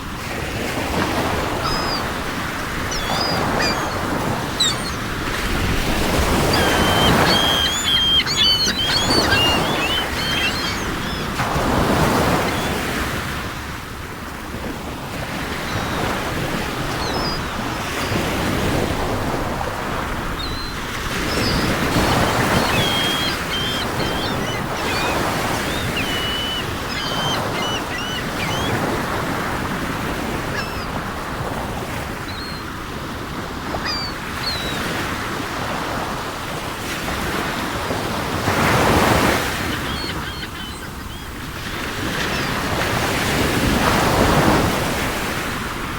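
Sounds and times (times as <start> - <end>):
seagulls calling: 0.0 - 13.6, 14.6 - 45.4
surf washing onto shore: 0.0 - 45.9.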